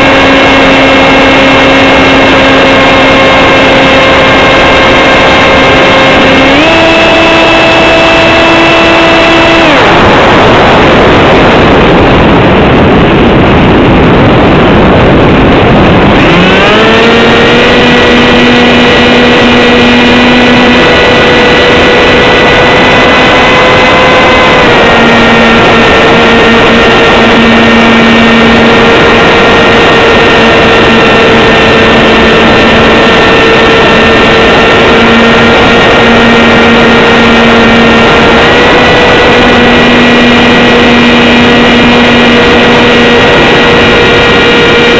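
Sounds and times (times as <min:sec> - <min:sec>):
electric motor and propeller whine: 0:00.0 - 0:44.9
wind rushing: 0:00.0 - 0:44.9.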